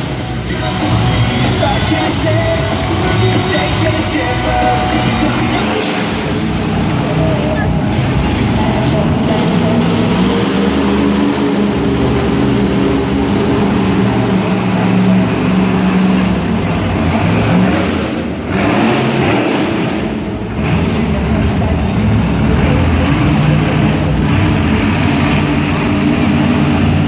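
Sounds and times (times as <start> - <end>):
truck engine running hard: 0.0 - 27.0.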